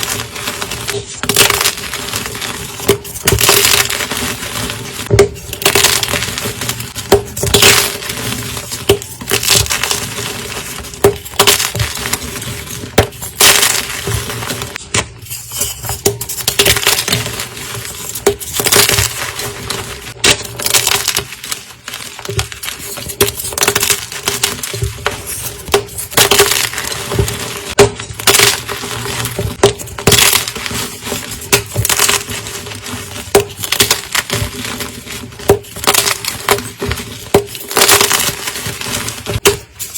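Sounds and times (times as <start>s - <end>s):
chalk being crushed: 0.0s - 39.9s.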